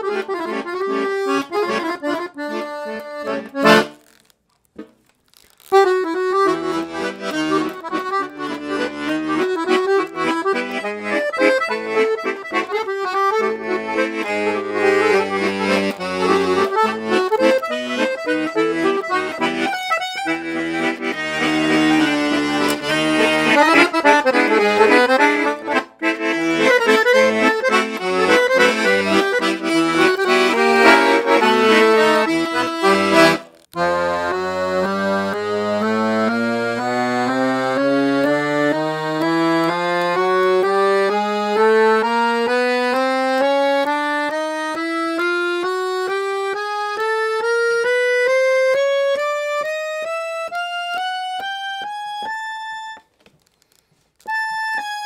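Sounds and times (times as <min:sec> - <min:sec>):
accordion rising scale: 0:00.0 - 0:04.4, 0:05.4 - 0:53.1, 0:53.7 - 0:55.0
piano accordion playing a tune: 0:00.0 - 0:04.4, 0:05.3 - 0:55.0.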